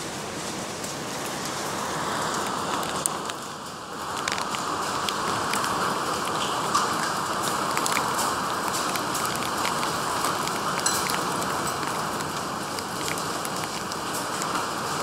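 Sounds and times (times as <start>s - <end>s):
heavy rain pouring: 0.0s - 15.0s
sharp raindrop taps: 0.8s - 15.0s.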